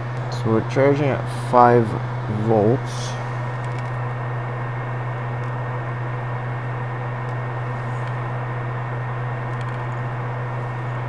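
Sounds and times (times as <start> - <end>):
mechanical hum and hiss: 0.0 - 11.0.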